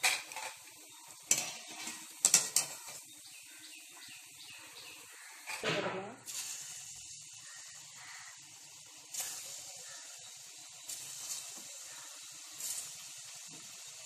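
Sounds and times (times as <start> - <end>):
dough sizzling in hot oil: 0.0 - 14.0.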